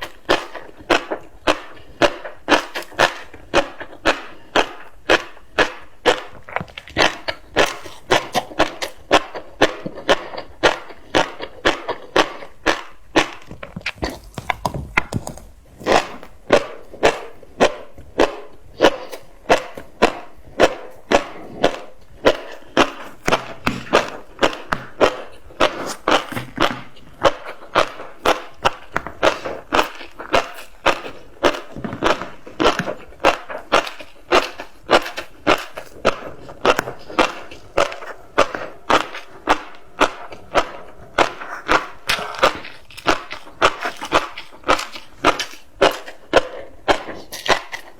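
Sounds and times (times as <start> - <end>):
chewing crunchy fish roe: 0.0 - 47.9.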